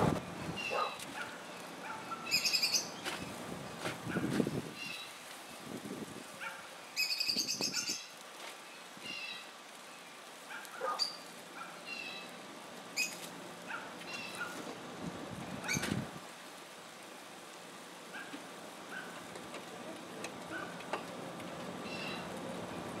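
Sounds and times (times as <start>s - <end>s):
songbirds chirping: 0.2s - 3.9s, 4.6s - 5.8s, 6.4s - 23.0s.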